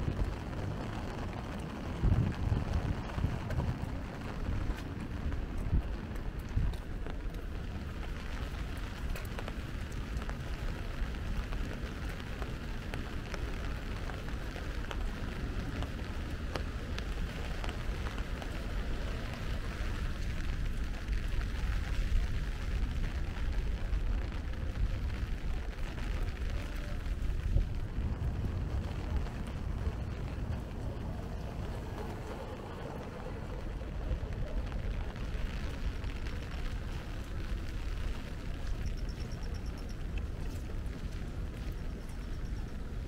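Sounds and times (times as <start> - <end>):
low rumble: 0.0 - 43.0
rain hiss with drop ticks: 0.0 - 43.0.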